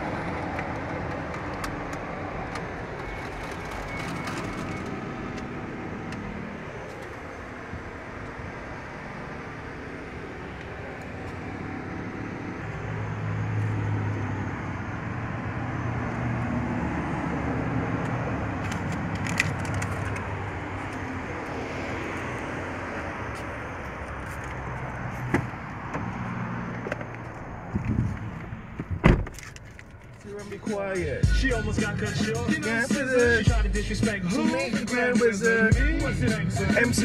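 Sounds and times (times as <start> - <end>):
vehicle engine and traffic hum: 0.0 - 37.0.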